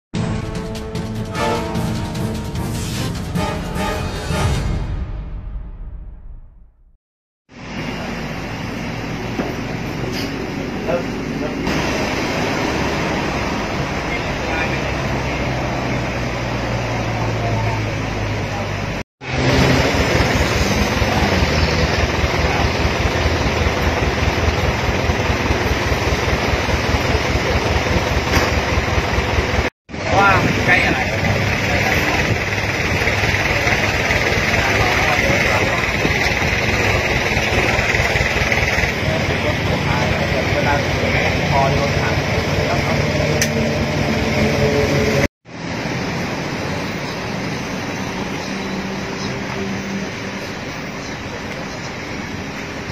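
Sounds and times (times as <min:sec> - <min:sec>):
street noise: 0:00.2 - 0:06.7, 0:07.5 - 0:52.9
road traffic hum: 0:07.5 - 0:52.9
vehicle engine idling: 0:07.6 - 0:52.9.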